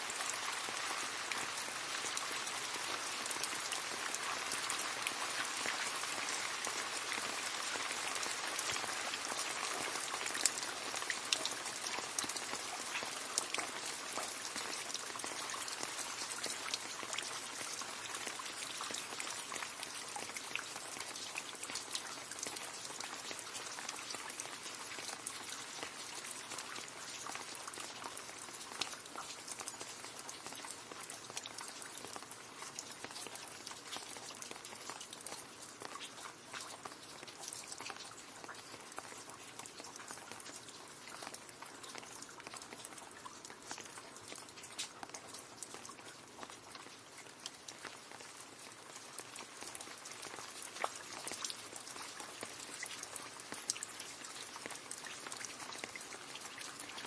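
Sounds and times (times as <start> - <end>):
rain splashing into puddle: 0.0 - 57.0
sharp water drips: 0.0 - 57.0.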